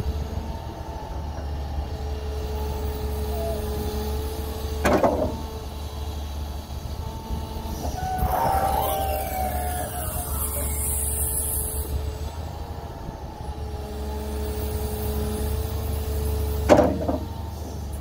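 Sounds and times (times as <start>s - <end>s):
excavator diesel engine running: 0.0s - 18.0s
hydraulic whine: 2.4s - 18.0s.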